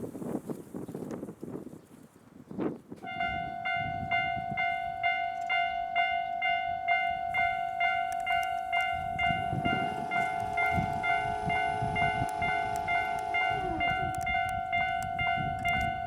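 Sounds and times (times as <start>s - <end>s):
wind noise on microphone: 0.0s - 16.0s
level crossing bell dinging: 3.1s - 16.0s
steady ringing tone: 3.1s - 16.0s.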